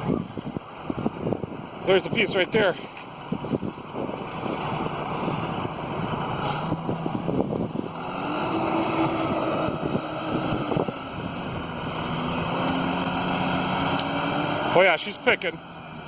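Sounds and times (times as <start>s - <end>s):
excavator engine and hydraulics: 0.0s - 16.0s.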